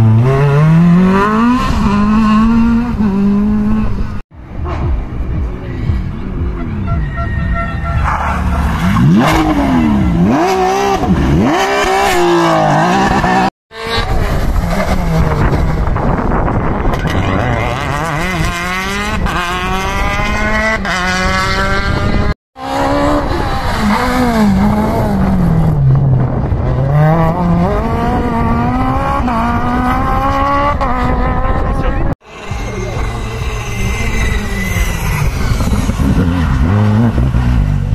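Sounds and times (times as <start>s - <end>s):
rally car engines at full throttle: 0.0s - 37.9s.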